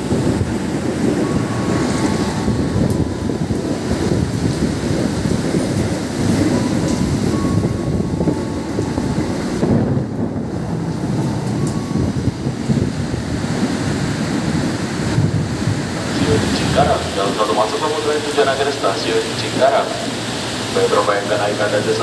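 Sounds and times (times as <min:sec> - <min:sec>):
freight train rumbling past: 0:00.0 - 0:22.0
heavy rain: 0:00.0 - 0:22.0
wind buffeting microphone: 0:00.0 - 0:22.0.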